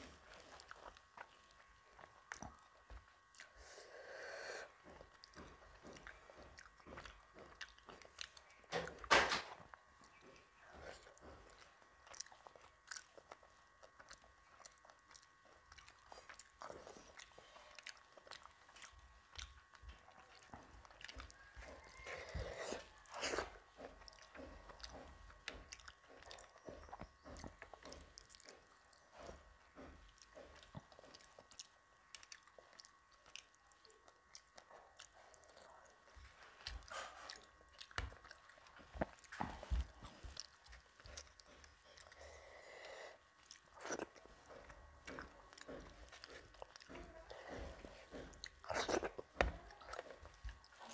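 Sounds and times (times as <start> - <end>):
chewing food: 0.0 - 50.9
small eating clicks: 0.0 - 50.9.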